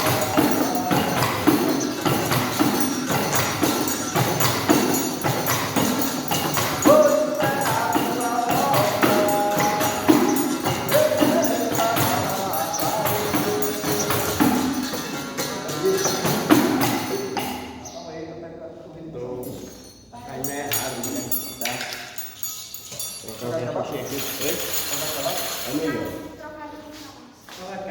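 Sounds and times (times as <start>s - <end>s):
tambourine jingles and drum strikes: 0.0s - 18.0s, 19.4s - 26.3s.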